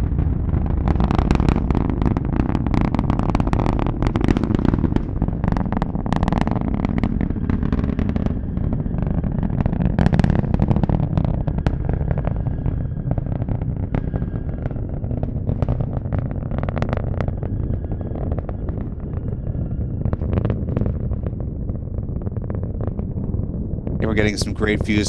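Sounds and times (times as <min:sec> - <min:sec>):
rocket engines rumbling and crackling: 0:00.0 - 0:25.0.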